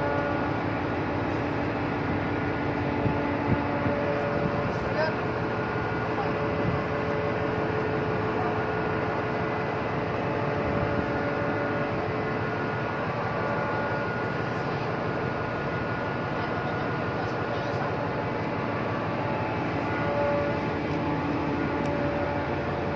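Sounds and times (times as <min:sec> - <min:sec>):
ship machinery hum: 0:00.0 - 0:22.9.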